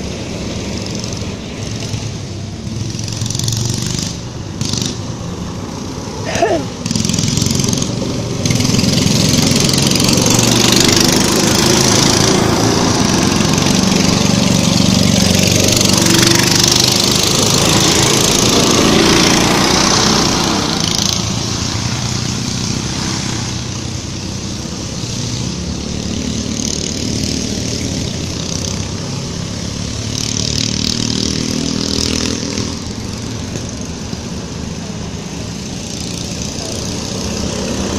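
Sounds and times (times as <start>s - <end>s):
atv engine revving: 0.0s - 37.9s.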